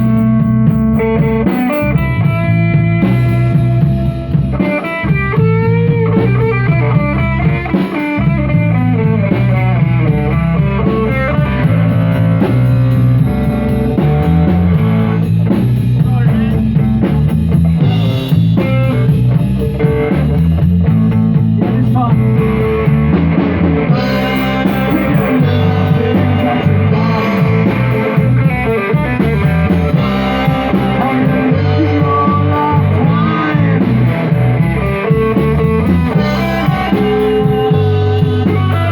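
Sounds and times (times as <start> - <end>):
drum kit: 0.0 - 38.9
electric guitar: 0.0 - 38.9
live rock band playing: 0.0 - 38.9.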